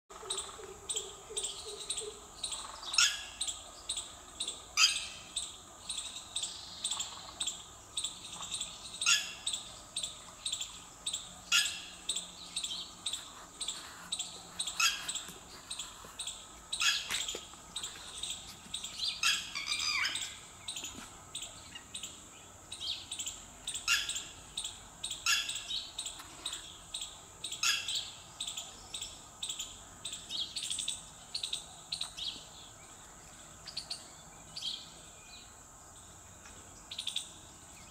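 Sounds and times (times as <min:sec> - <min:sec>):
small birds chirping: 0:00.1 - 0:37.9.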